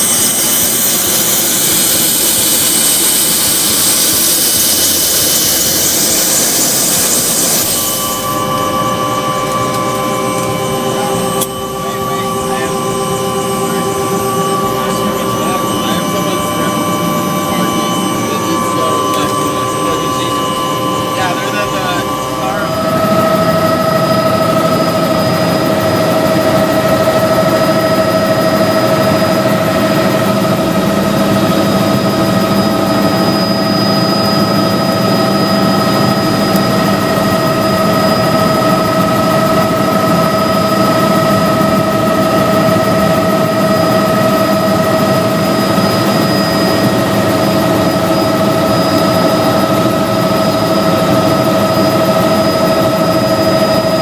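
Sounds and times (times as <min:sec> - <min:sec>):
helicopter engine whine: 0:00.0 - 0:54.0
rotor and engine noise: 0:00.0 - 0:54.0.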